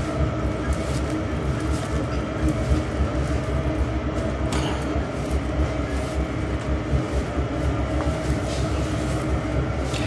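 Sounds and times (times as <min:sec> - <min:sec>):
mechanical hum and rumble: 0:00.0 - 0:10.0.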